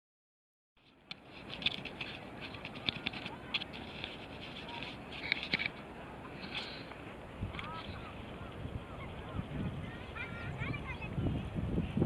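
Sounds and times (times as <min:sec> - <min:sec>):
outdoor background hiss: 0:00.8 - 0:12.0
small birds chirping: 0:01.2 - 0:12.0.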